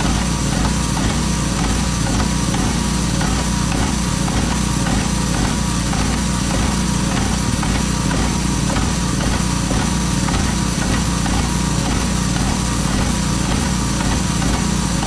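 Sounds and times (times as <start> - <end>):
line-striping machine engine running: 0.0 - 15.0.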